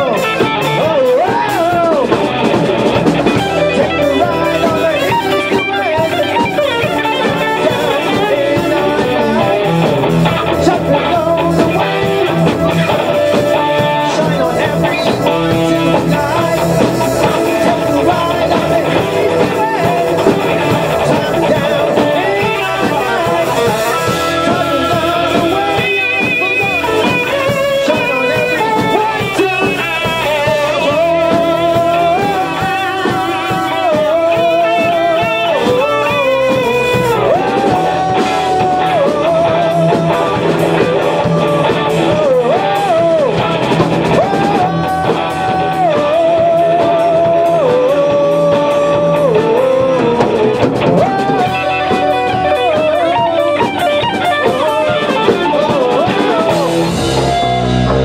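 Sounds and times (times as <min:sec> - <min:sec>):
rock band playing live: 0:00.0 - 0:58.0
wavering lead melody: 0:00.0 - 0:58.0.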